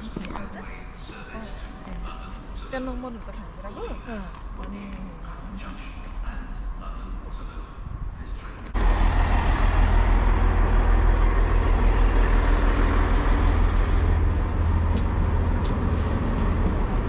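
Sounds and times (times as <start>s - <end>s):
passenger train rumbling: 0.0s - 17.0s.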